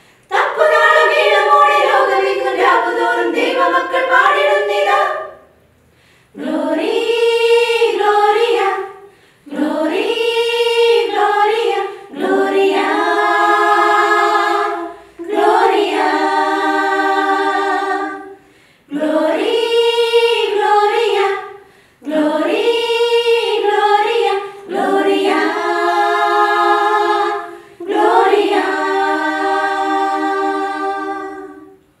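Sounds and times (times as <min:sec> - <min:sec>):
women's choir singing a cappella: 0:00.0 - 0:05.6, 0:06.3 - 0:32.0.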